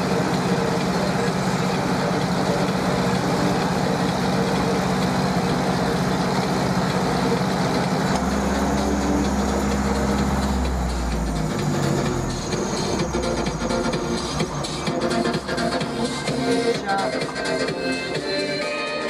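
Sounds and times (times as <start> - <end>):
deep low drone: 0.0 - 18.6
tractor diesel engine running: 0.0 - 19.0.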